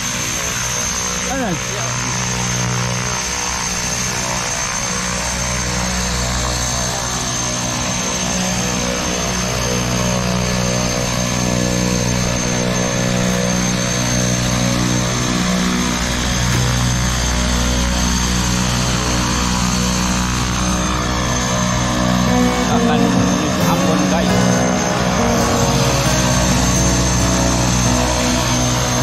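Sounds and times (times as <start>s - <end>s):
propeller drone: 0.0s - 29.0s
turbine whine: 0.0s - 29.0s.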